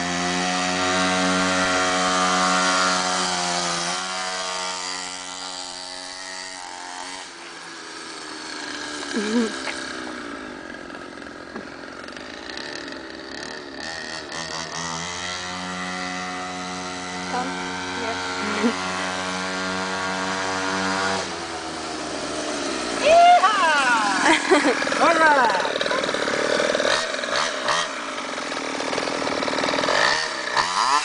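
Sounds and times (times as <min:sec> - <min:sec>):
small dirt bike engine buzzing: 0:00.0 - 0:31.0.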